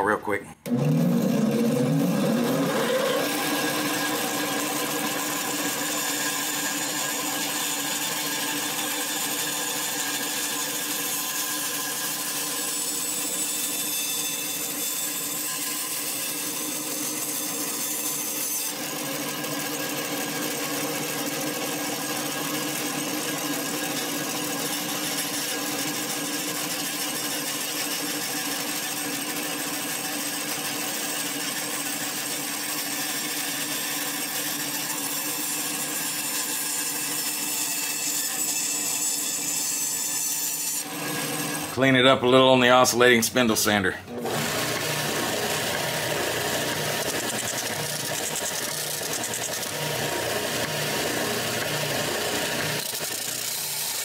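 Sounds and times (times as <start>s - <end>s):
bandsaw cutting wood: 0.6s - 54.0s.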